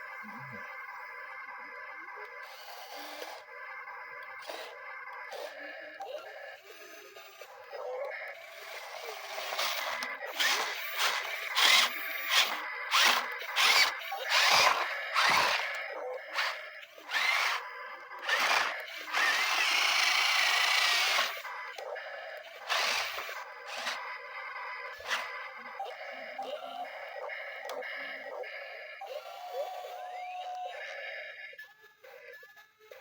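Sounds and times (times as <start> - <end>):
small electric motors whirring: 0.2 - 33.0.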